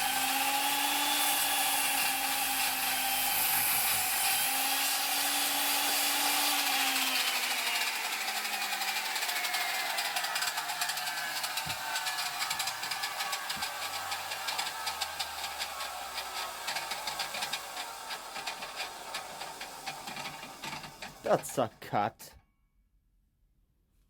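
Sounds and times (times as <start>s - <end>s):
circular saw winding down: 0.0s - 21.8s.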